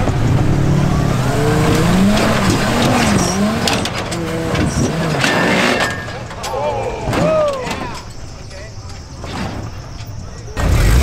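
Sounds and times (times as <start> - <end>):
truck engine revving: 0.0 - 7.1, 9.2 - 11.0.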